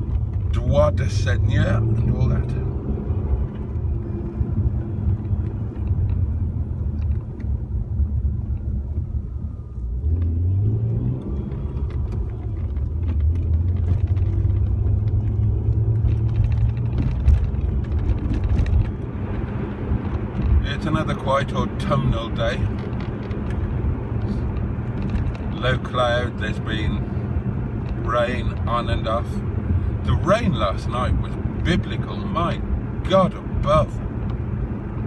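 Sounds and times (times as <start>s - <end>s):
car engine: 0.0s - 35.0s
road rumble: 0.0s - 35.0s.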